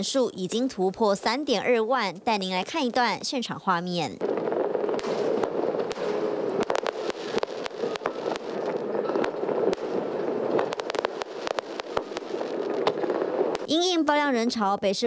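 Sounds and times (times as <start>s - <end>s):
fireworks bursting: 0.0s - 14.4s.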